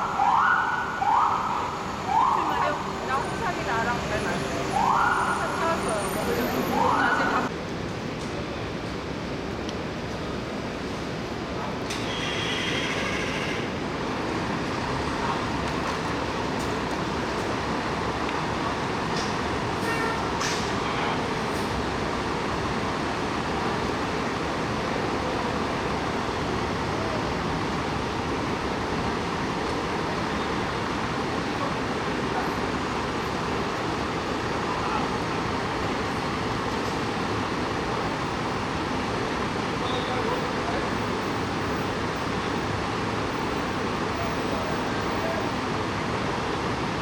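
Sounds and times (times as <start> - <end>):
street traffic noise: 0.0 - 47.0.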